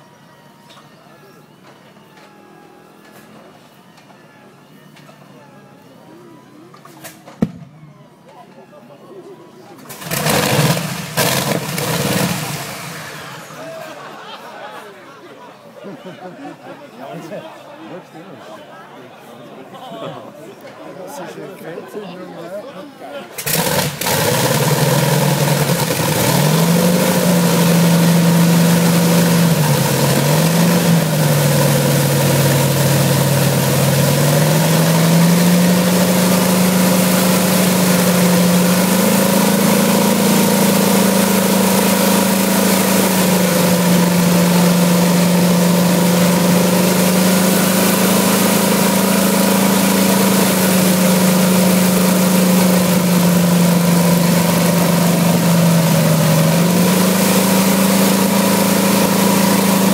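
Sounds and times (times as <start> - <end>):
radial aircraft engine running: 0.0 - 13.7, 23.4 - 59.9.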